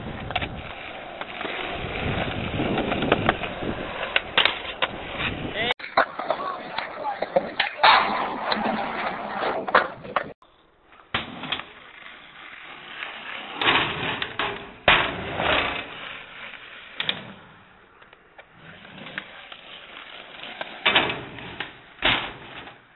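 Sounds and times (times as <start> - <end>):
skateboard popping and landing: 0.0 - 22.9
skateboard wheels rolling: 0.0 - 22.9.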